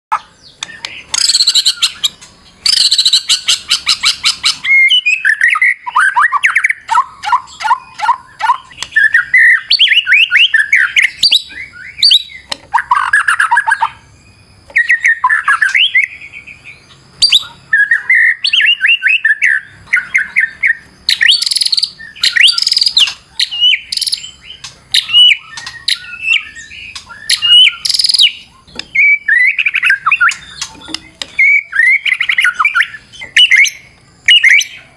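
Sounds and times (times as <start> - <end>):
bird singing varied song: 0.1 - 34.9.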